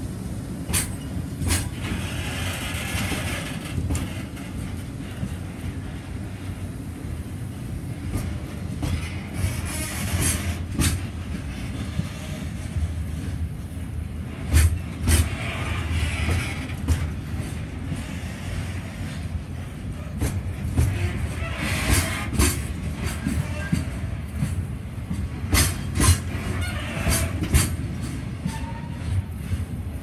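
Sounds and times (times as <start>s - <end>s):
freight train rumbling past: 0.0s - 30.0s
wheels clacking over rail joints: 0.6s - 30.0s.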